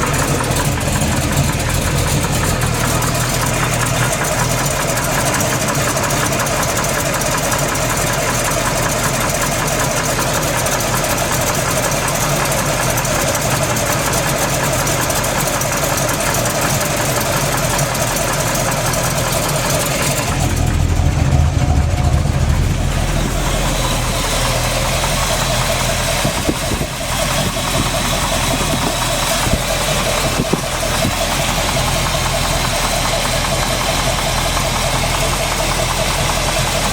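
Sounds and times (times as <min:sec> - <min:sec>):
engine idling: 0:00.0 - 0:36.9
engine knocking: 0:00.0 - 0:36.9.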